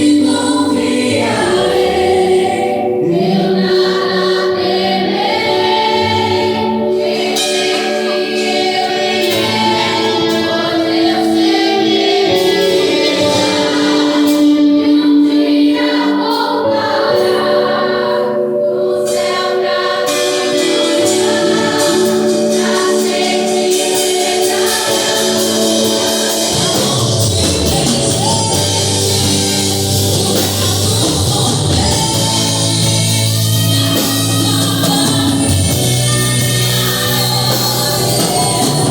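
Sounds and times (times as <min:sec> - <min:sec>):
choir singing over chords: 0:00.0 - 0:38.9.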